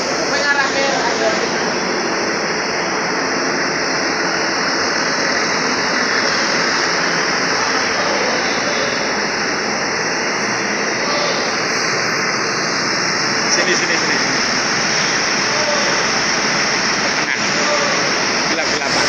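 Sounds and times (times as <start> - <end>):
ship engines running: 0.0 - 19.0
ventilation running: 0.0 - 19.0.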